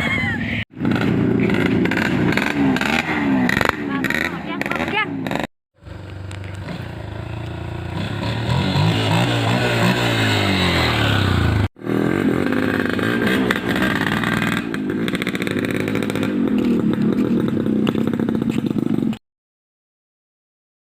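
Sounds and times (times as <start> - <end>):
engine revving: 0.7 - 19.2.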